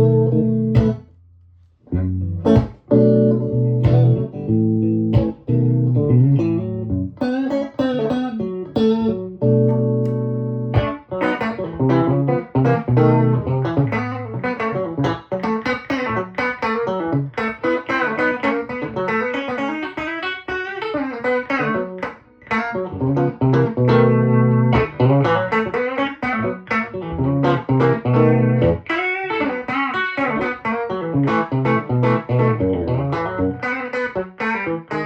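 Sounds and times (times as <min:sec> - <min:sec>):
electric guitar playing: 0:00.0 - 0:01.2, 0:01.9 - 0:35.0.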